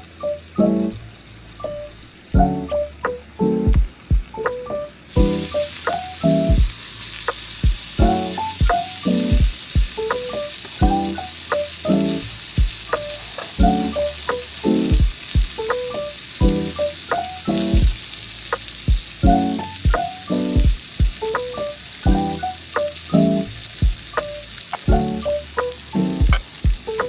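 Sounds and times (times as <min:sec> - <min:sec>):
background music: 0:00.0 - 0:27.0
meat sizzling in a pan: 0:04.2 - 0:27.0.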